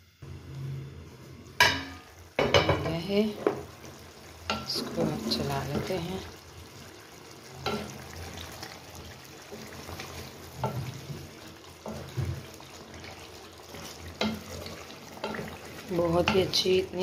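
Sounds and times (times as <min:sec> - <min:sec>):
curry sizzling: 0:00.0 - 0:17.0
wooden spoon stirring in a pot: 0:02.4 - 0:17.0.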